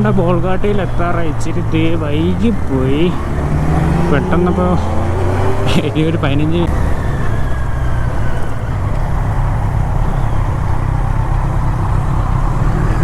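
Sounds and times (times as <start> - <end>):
motorcycle engine running: 0.0 - 13.0
road noise: 0.0 - 13.0
wind noise: 0.0 - 13.0.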